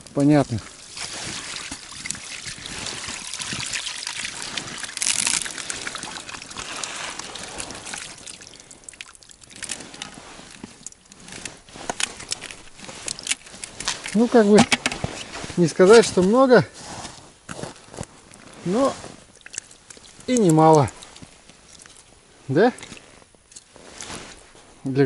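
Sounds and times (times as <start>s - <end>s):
water trickling: 0.0s - 16.2s, 18.2s - 23.7s
water and fish splashing onto ice: 0.1s - 16.3s, 17.5s - 22.2s, 22.8s - 24.1s.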